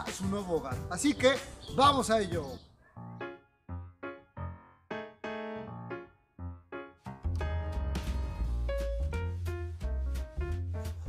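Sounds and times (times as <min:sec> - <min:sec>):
keyboard chords with bass and drums: 0:00.0 - 0:11.0.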